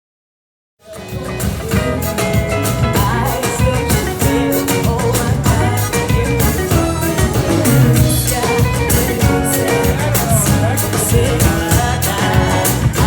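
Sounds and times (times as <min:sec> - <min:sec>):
background music with guitar and bass: 0:00.9 - 0:13.0.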